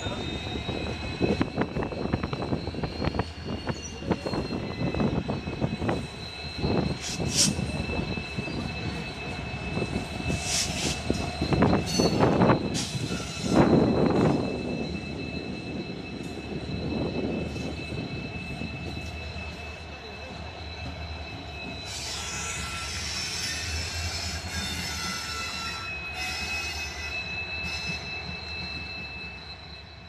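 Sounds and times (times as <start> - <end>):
wheel squeal on rails: 0.0 - 30.0.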